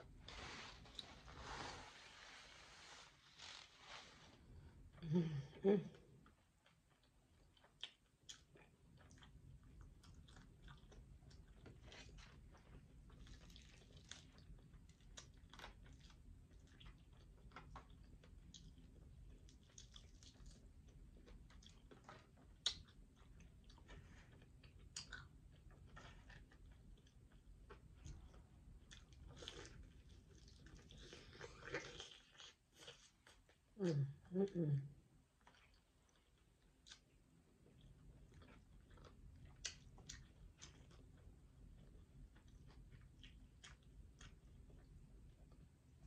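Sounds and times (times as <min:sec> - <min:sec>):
low steady hum: 0:00.0 - 0:46.0
chewing and crunching: 0:06.2 - 0:33.7, 0:35.4 - 0:46.0.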